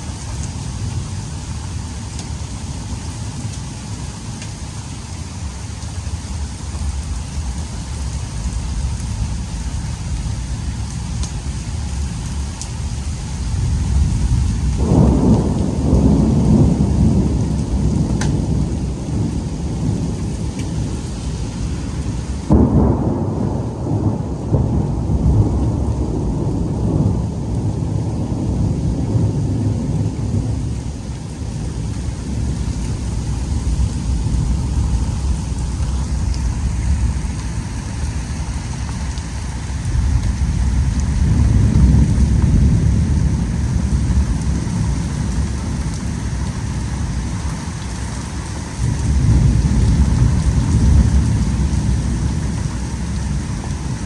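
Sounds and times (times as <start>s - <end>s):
steady rain: 0.0s - 54.0s
thunder rumbling: 6.9s - 54.0s.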